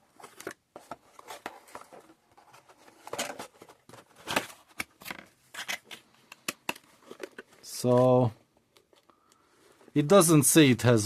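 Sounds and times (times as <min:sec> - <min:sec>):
packaging and papers rustling: 0:00.0 - 0:10.1.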